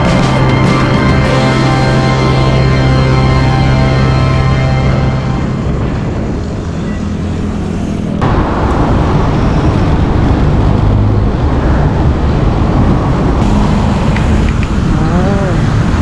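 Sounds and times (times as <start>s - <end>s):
passing vehicles rushing: 0.0s - 16.0s
wind: 0.0s - 16.0s.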